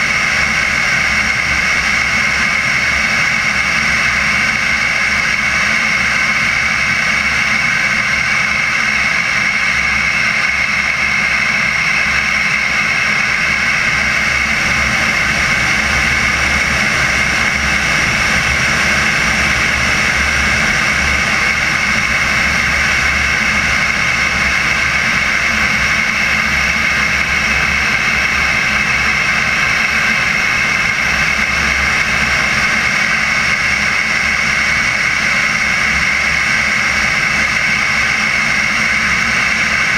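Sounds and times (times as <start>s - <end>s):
jet turbine whine: 0.0s - 39.9s.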